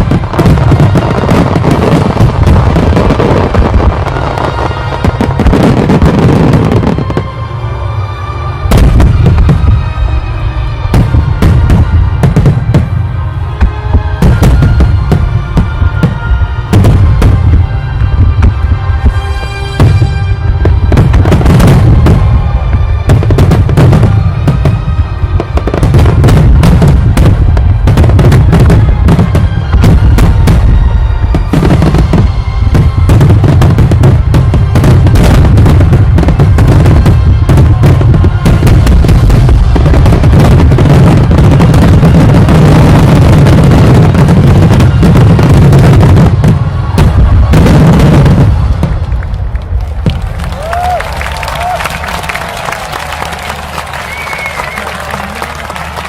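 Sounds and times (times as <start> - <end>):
deep booming rumble: 0.0 - 7.5, 8.6 - 19.2, 19.8 - 50.8
fireworks bangs and crackles: 0.0 - 56.0.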